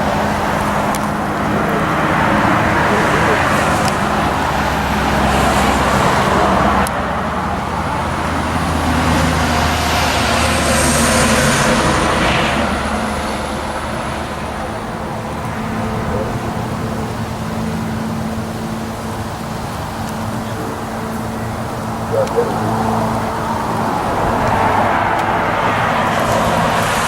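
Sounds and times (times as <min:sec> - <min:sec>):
vehicle passing by: 0:00.0 - 0:27.0.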